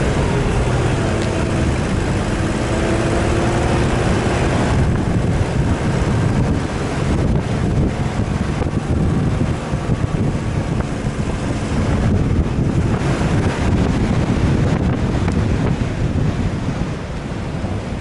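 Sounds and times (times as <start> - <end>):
vehicle engine rumble: 0.0 - 18.0
wind buffeting microphone: 0.0 - 18.0.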